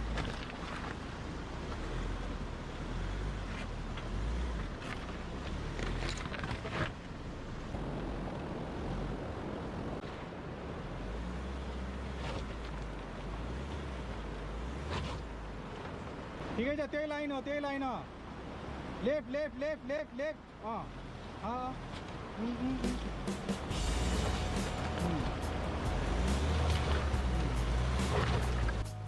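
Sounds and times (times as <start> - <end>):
vehicle engine and tyres rumbling: 0.0 - 29.0.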